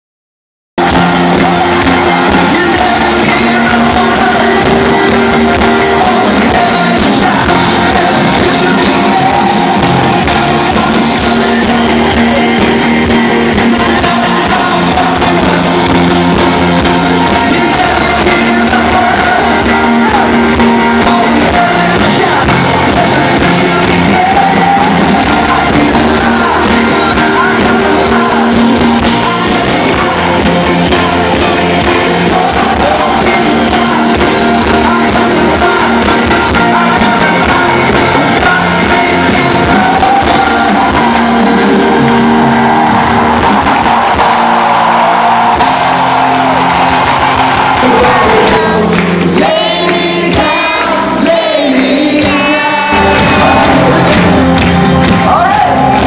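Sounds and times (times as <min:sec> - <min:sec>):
people singing: 0:00.8 - 0:46.6, 0:47.7 - 0:56.0
live worship band playing: 0:00.8 - 0:56.0.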